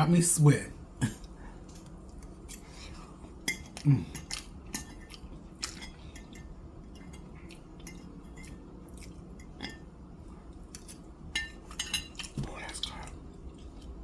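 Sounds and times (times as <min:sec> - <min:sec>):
chewing and crunching: 0:01.2 - 0:14.0.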